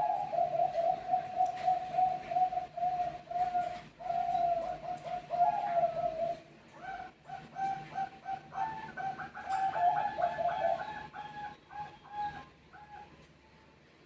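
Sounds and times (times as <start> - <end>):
dove cooing rapidly: 0.0 - 13.2.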